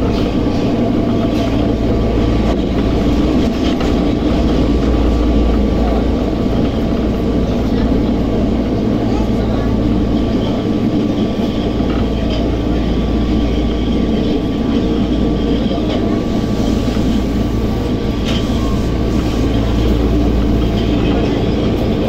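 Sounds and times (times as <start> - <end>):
subway train rumbling in tunnel: 0.0 - 22.0.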